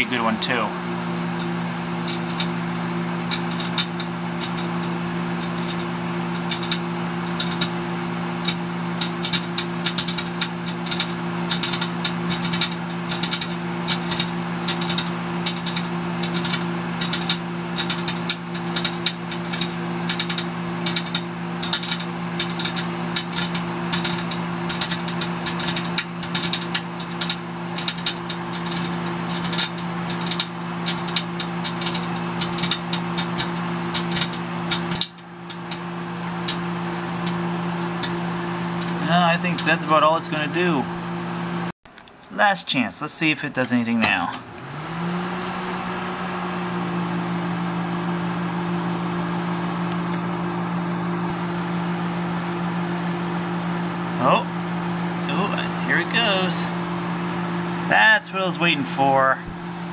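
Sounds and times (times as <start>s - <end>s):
microwave oven hum: 0.0s - 59.9s.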